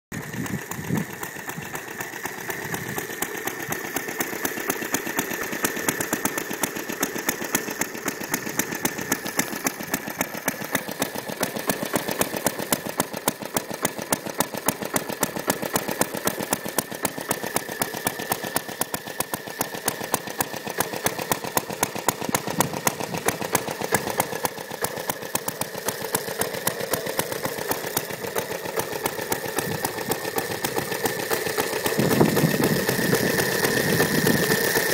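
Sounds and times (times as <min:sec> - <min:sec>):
mower engine running: 0:00.1 - 0:34.9.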